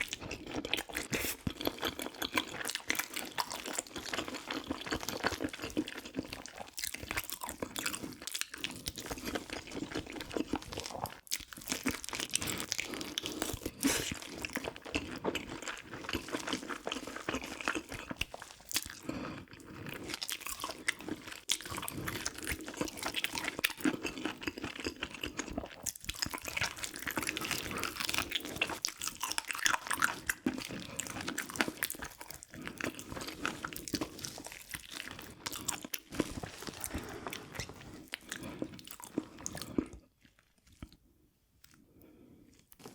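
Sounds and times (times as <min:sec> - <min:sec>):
person chewing food: 0:00.0 - 0:42.9.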